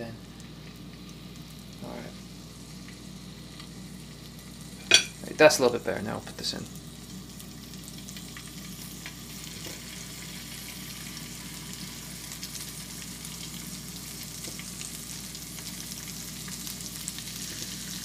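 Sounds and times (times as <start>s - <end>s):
fish fillets sizzling in a pan: 0.3s - 18.0s.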